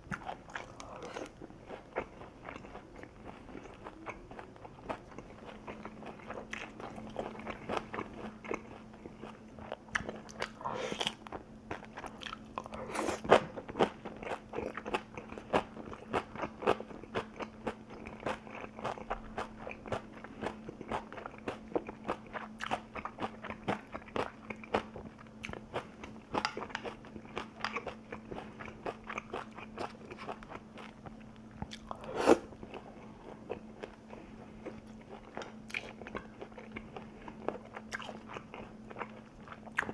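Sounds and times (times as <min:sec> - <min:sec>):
faint steady hum: 0:00.0 - 0:39.9
person chewing crunchy food: 0:00.0 - 0:39.9.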